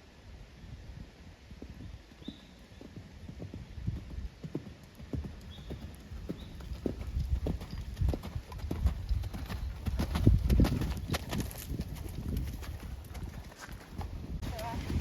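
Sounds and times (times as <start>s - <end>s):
horse hoofbeats: 1.6s - 15.0s.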